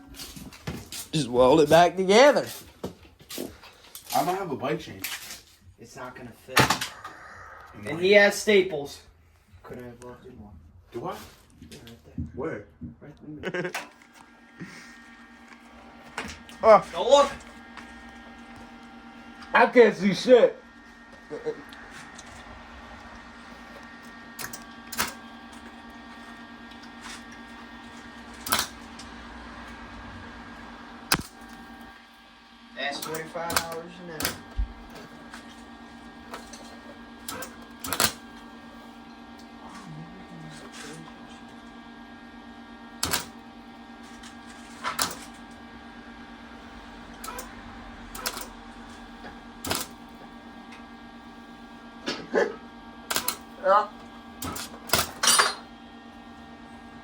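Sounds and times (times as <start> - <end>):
welding machine humming: 0.0 - 5.6, 13.4 - 57.0.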